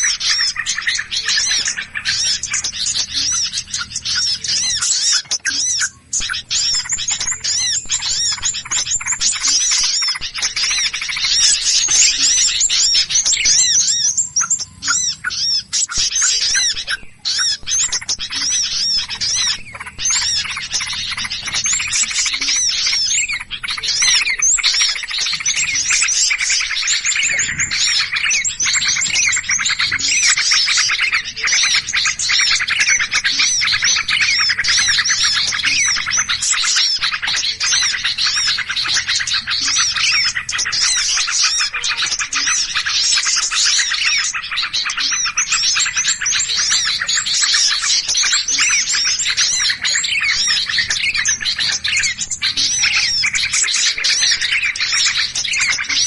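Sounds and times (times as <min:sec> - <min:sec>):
small birds chirping and scolding: 0:00.0 - 0:56.0.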